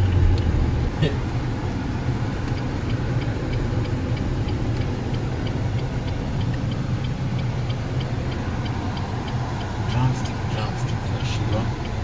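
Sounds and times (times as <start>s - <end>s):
light regular ticking: 0.0s - 12.0s
low engine hum: 0.0s - 12.0s.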